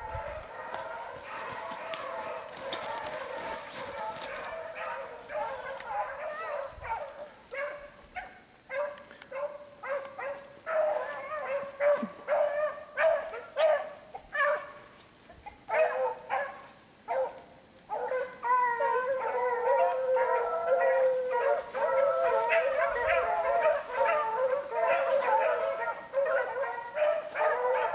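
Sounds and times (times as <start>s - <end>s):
beagles baying: 0.0s - 14.8s, 15.4s - 27.9s.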